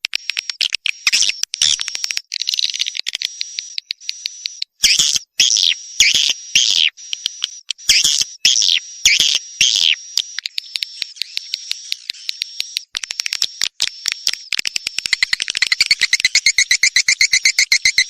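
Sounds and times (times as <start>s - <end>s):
rapid clicking bird trills: 0.0s - 18.0s
buzzy twittering bird chirps: 0.3s - 18.0s.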